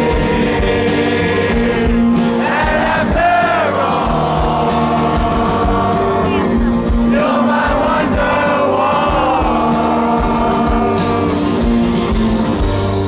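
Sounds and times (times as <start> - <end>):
crowd voices: 0.0 - 13.0
live band with singing: 0.0 - 13.0.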